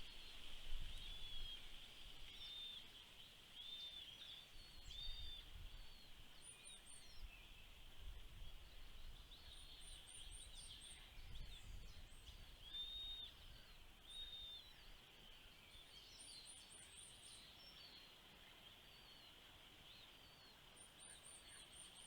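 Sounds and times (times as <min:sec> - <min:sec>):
faint high-pitched hiss: 0:00.0 - 0:22.0.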